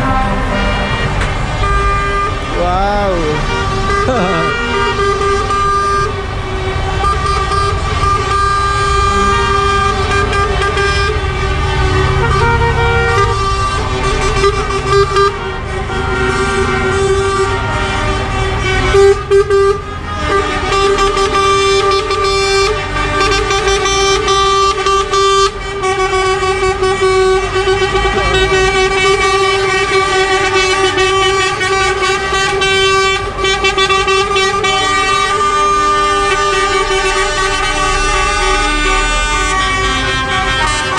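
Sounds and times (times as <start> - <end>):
diesel engines rumbling: 0.0 - 40.9
truck horns blasting: 0.0 - 40.9.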